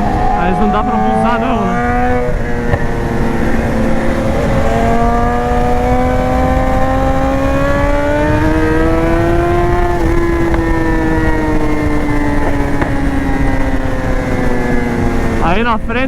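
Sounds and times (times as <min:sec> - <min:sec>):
motorcycle engine revving: 0:00.0 - 0:16.0
wind rush: 0:00.0 - 0:16.0.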